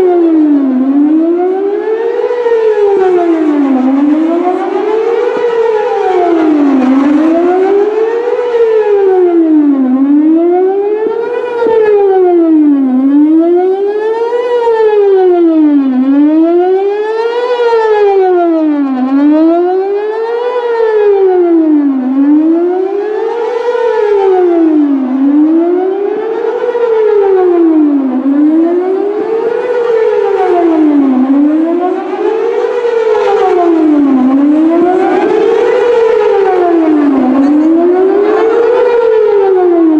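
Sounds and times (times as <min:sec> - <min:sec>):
wavering warning siren: 0:00.0 - 0:39.9.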